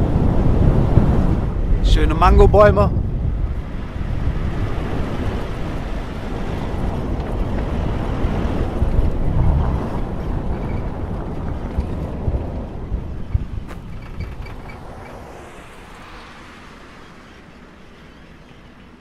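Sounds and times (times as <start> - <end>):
wind buffeting microphone: 0.0 - 19.0
car driving on dirt road: 3.0 - 19.0.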